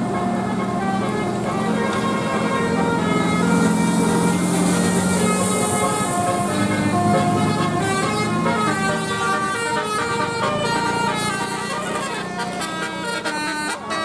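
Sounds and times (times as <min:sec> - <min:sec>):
multi-tone bus horn tune: 0:00.0 - 0:14.0.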